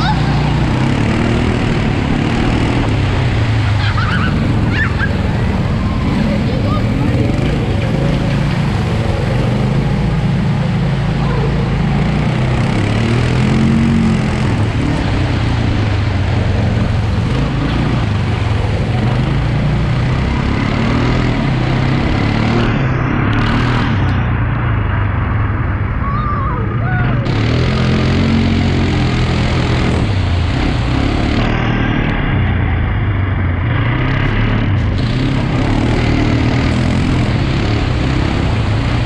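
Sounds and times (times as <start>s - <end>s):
quad bike engine revving: 0.0s - 39.0s
steady rushing noise: 0.0s - 39.0s.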